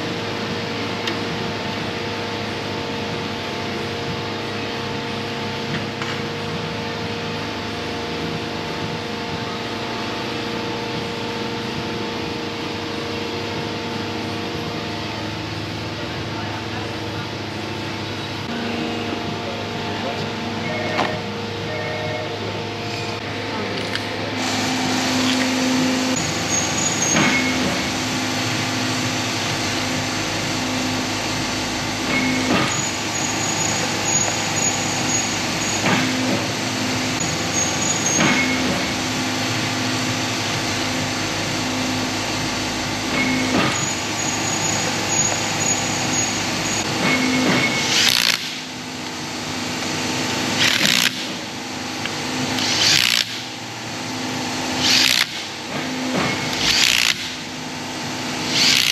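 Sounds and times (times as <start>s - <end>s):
machinery humming: 0.0s - 58.9s.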